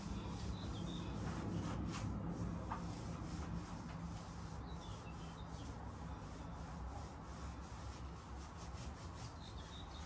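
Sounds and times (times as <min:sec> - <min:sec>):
cloth scrubbing wicker: 0:00.0 - 0:10.0.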